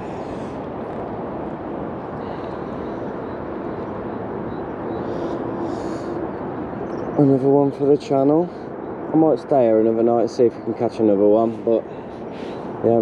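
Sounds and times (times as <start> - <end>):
faint steady hum: 0.0 - 13.0
low outdoor rumble: 0.0 - 13.0.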